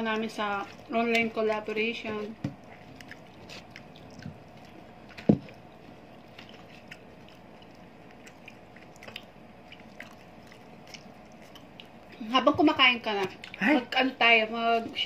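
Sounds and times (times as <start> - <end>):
faint chewing: 0.0 - 12.2, 13.1 - 13.7.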